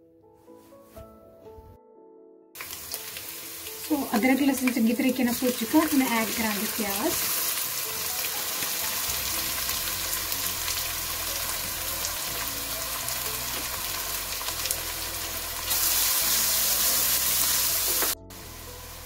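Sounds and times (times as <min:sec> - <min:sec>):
onions sizzling in oil: 0:02.6 - 0:19.0.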